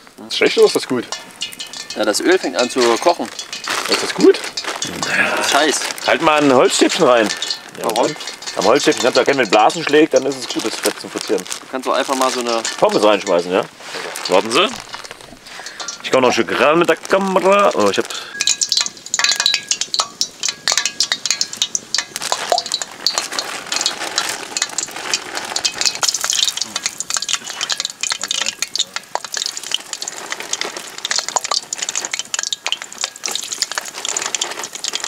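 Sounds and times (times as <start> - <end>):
chips sizzling in oil: 0.0 - 35.0.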